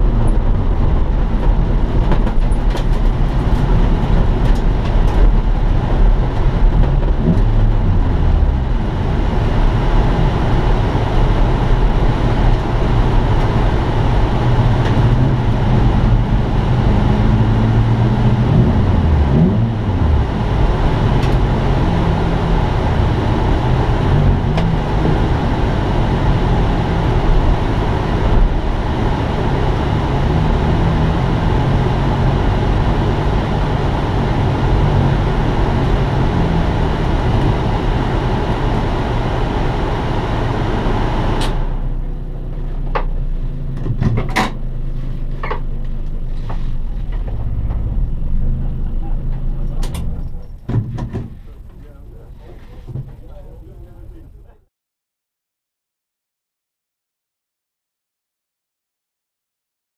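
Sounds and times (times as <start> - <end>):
car engine at low revs: 0.0 - 54.6
low hum: 0.0 - 54.6.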